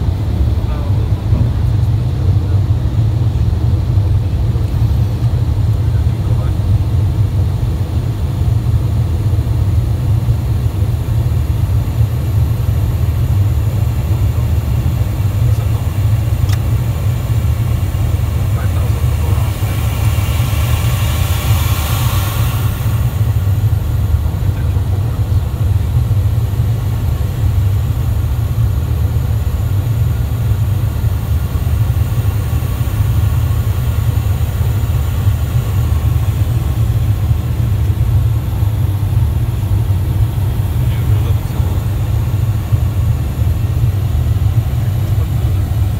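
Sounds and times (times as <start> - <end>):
jet cabin rumble and engine hum: 0.0 - 45.9.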